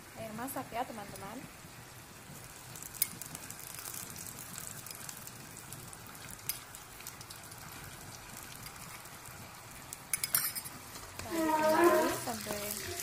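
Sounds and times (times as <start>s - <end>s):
sauce sizzling in a wok: 0.0s - 13.0s.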